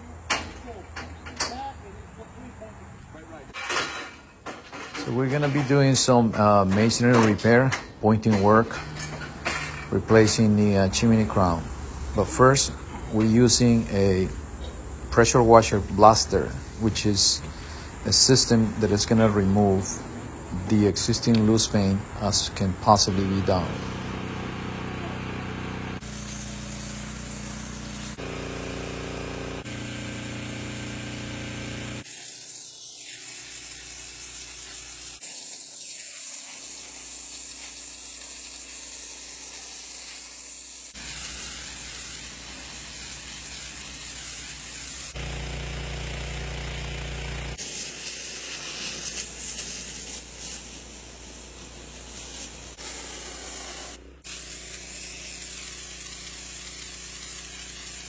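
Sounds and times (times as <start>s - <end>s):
pressure washer water jet hissing: 3.3s - 58.0s
pressure washer machine hum: 3.5s - 58.0s.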